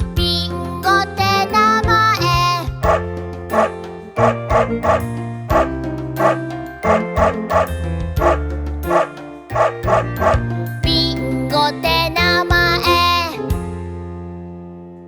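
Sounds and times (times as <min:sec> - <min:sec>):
children's song backing track: 0:00.0 - 0:13.8.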